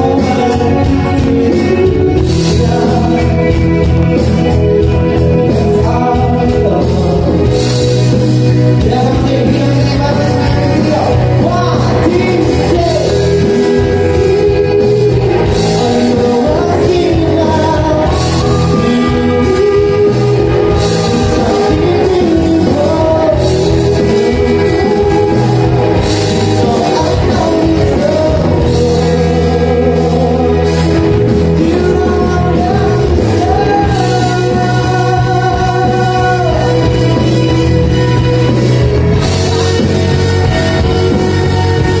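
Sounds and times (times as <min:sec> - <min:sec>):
lead singer singing: 0:00.0 - 0:42.0
live band playing: 0:00.0 - 0:42.0.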